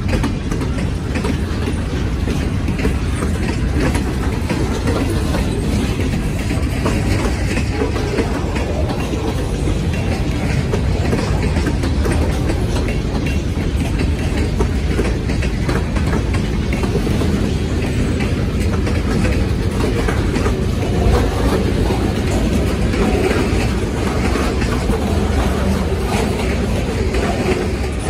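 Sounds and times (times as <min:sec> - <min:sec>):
train wheels rumbling on rail: 0:00.0 - 0:28.0
wheels clicking: 0:00.0 - 0:28.0.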